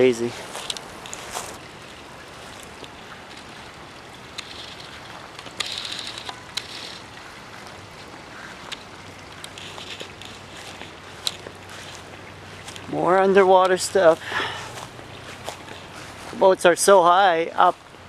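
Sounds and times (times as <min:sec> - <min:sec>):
water noise: 0:00.0 - 0:18.0
wind: 0:00.0 - 0:18.0.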